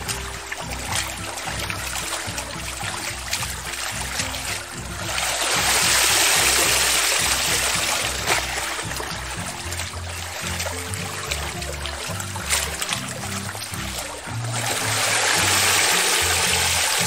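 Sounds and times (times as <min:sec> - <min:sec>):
background music: 0:00.0 - 0:17.0
water pouring out of wool: 0:00.0 - 0:17.0
water sloshing: 0:00.0 - 0:17.0.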